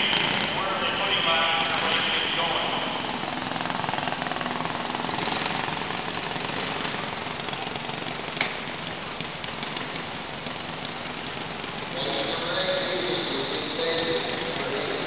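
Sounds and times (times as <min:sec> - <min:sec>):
kart engines buzzing: 0:00.0 - 0:15.0.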